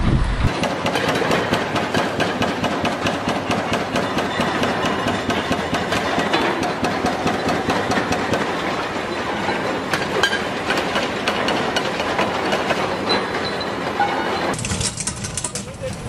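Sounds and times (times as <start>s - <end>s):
machinery clattering: 0.5s - 16.0s.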